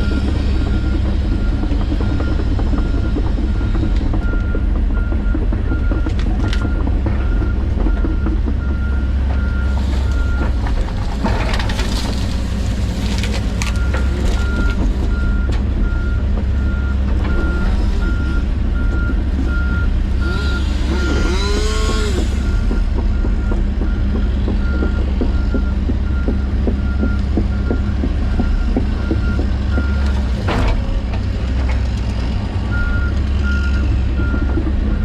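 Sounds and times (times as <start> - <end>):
diesel excavator engine running: 0.0 - 35.0.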